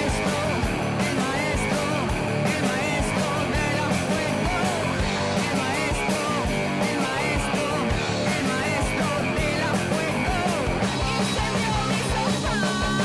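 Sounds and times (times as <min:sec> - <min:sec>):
rock music with steady beat: 0:00.0 - 0:13.0.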